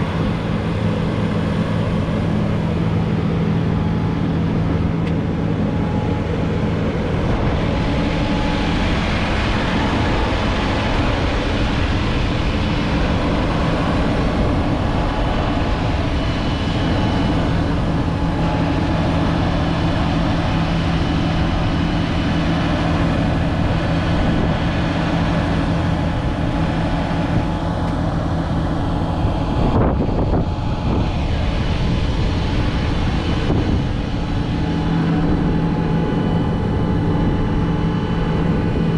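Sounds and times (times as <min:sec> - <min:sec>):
tractor diesel engine idling: 0:00.0 - 0:37.6.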